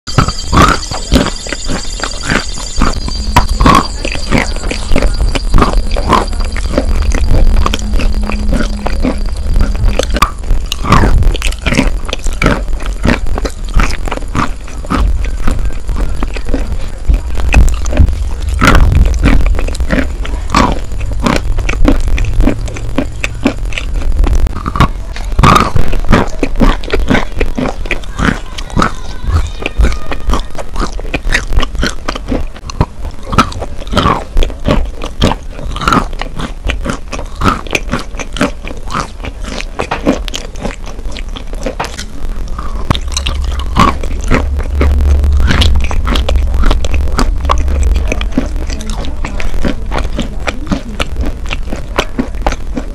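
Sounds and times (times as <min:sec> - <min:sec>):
low hum: 0:00.1 - 0:52.9
wet crunching chewing: 0:00.1 - 0:52.9.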